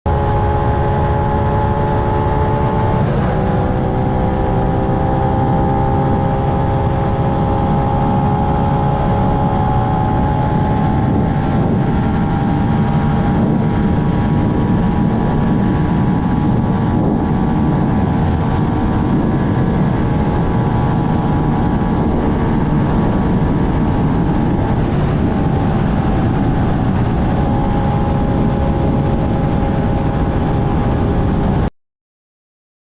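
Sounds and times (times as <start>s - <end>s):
motorcycle engine at high revs: 0.1s - 31.7s
wind noise on microphone: 0.1s - 31.7s.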